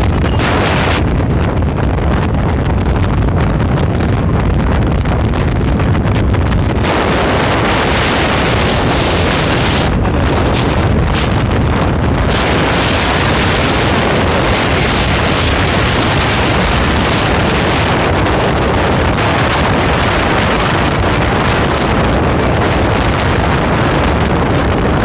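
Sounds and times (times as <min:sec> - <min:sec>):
vehicle rumble at highway speed: 0:00.0 - 0:25.0
wind buffeting microphone: 0:00.0 - 0:25.0.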